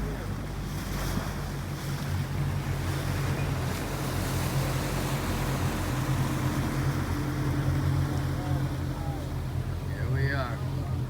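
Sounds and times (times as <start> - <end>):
low engine hum: 0.0 - 11.0
water noise: 0.0 - 11.0.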